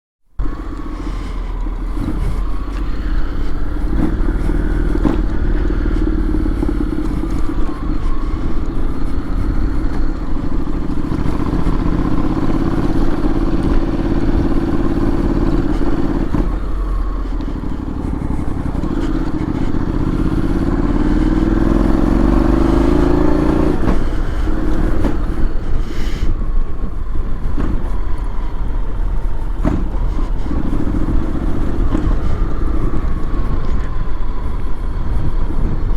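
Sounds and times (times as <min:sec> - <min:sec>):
scooter engine running: 0:00.4 - 0:35.9.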